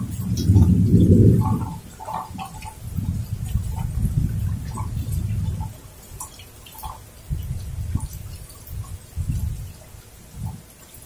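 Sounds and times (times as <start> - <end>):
wind buffeting microphone: 0.0 - 10.8
drops ticking and dripping: 0.0 - 11.0
heavy rain: 0.0 - 11.0.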